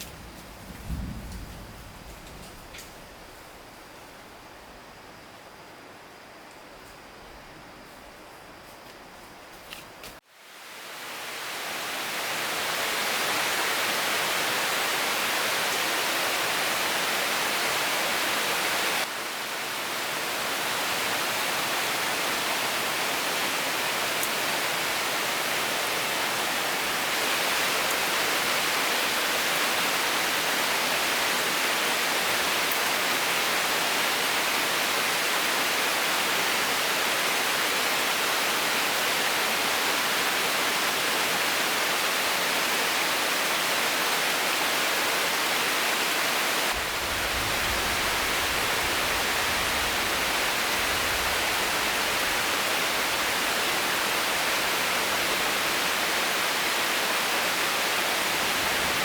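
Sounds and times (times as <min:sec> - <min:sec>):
heavy rain falling: 0:00.0 - 0:04.8, 0:10.6 - 0:59.0.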